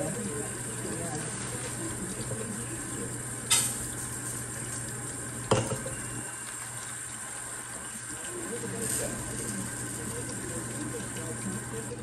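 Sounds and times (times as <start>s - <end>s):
faucet running into a bowl: 0.0s - 12.0s.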